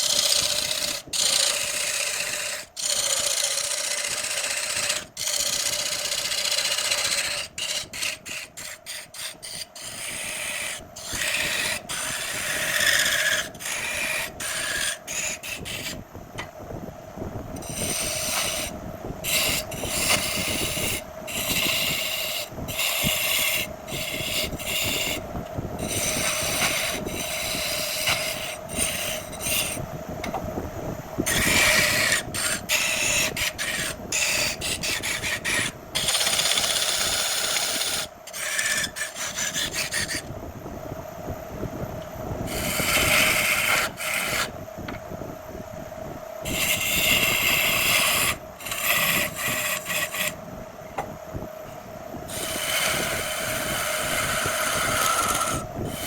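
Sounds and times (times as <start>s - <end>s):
wood lathe motor hum: 0.0s - 15.9s, 17.6s - 25.2s, 25.8s - 30.4s, 31.2s - 40.3s, 42.5s - 45.0s, 46.4s - 50.4s, 52.3s - 56.0s
turning tool scraping wood: 0.0s - 16.0s, 17.6s - 25.2s, 25.8s - 29.8s, 31.3s - 40.3s, 42.5s - 44.5s, 46.5s - 50.4s, 52.3s - 56.0s.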